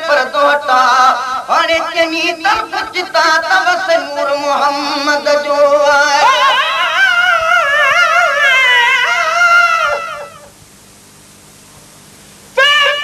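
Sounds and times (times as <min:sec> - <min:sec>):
person singing devotional melody: 0:00.0 - 0:10.5, 0:12.6 - 0:13.0.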